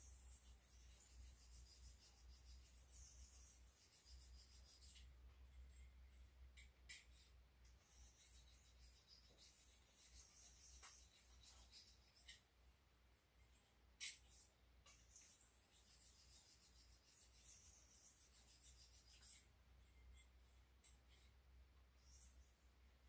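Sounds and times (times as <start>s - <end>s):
knife rubbing on ceramic stone: 0.0s - 12.5s, 13.4s - 21.4s, 22.0s - 22.7s.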